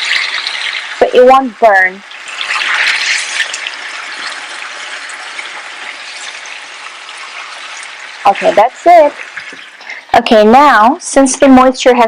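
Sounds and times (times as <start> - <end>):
chicken sizzling in pan: 0.0 - 11.2.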